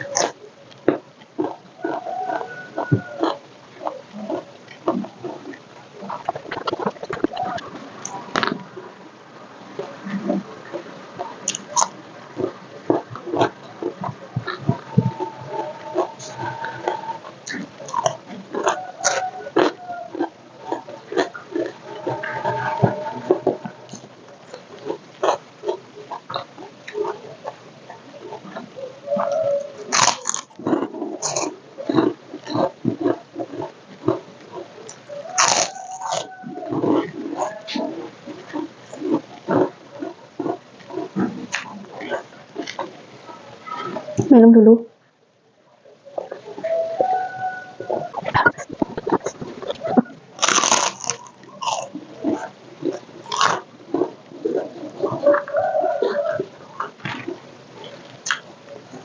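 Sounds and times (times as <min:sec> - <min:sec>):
wet mouth and lip sounds: 0:00.0 - 0:08.6, 0:09.8 - 0:43.0, 0:47.8 - 0:59.0
crunchy chewing: 0:00.0 - 0:44.3, 0:46.0 - 0:59.0.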